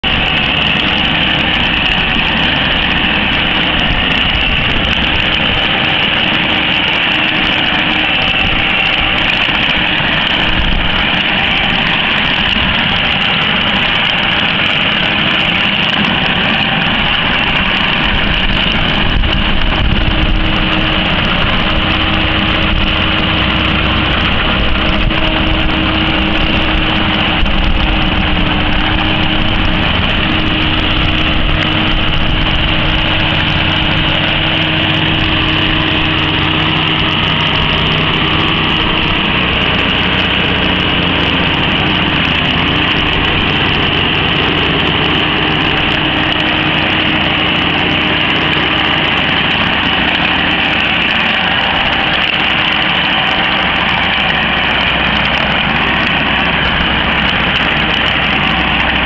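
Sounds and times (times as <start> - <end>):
power harrow working soil: 0.0 - 59.0
tractor engine running: 0.0 - 59.0.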